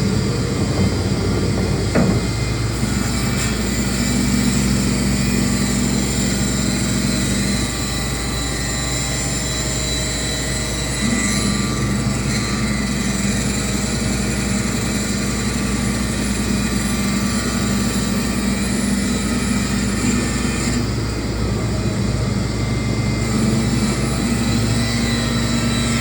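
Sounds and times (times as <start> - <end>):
cnc router machining wood: 0.0 - 26.0.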